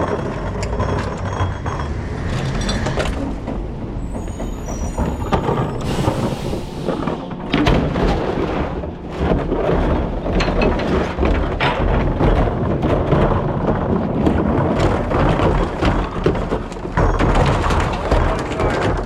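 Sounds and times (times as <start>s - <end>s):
rattling and clattering: 0.0s - 19.0s
recycling truck rumble: 0.0s - 19.0s.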